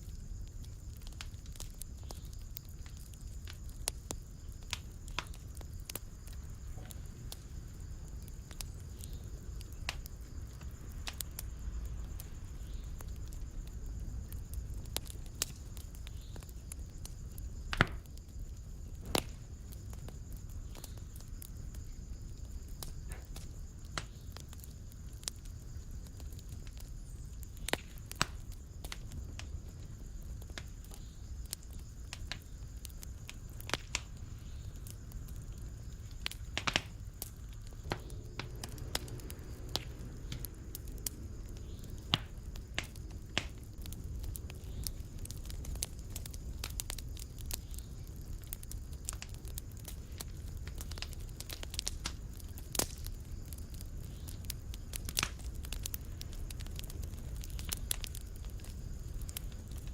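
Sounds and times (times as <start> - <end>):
fire crackles and pops: 0.0 - 59.9
fire low rumble: 0.0 - 59.9.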